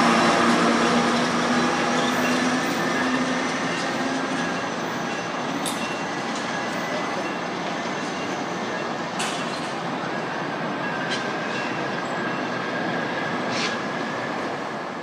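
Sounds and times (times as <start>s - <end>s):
commuter train running: 0.0s - 15.0s.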